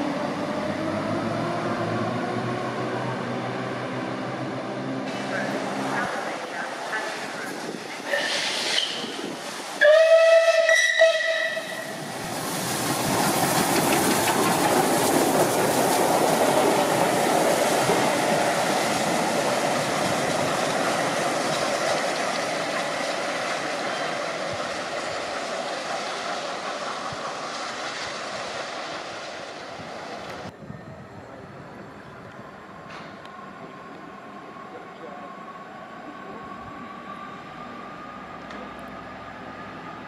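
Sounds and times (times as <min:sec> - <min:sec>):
train passing with rush and rumble: 0:00.0 - 0:40.0.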